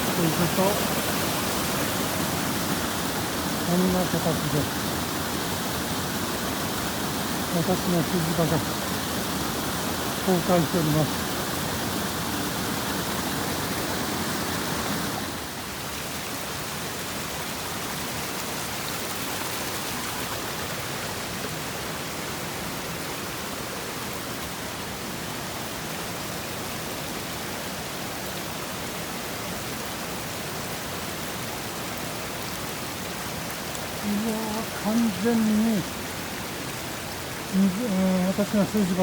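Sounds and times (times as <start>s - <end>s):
rushing runoff water: 0.0s - 39.0s.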